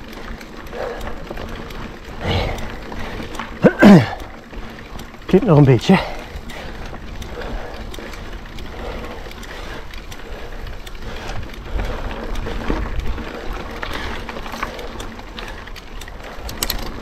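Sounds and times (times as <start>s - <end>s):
bike clicks and rattles: 0.0s - 17.0s.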